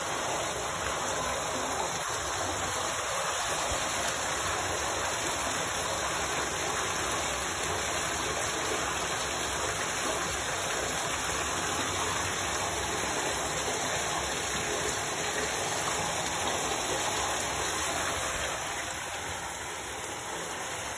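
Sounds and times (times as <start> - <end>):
steady water-like rushing: 0.0 - 20.9.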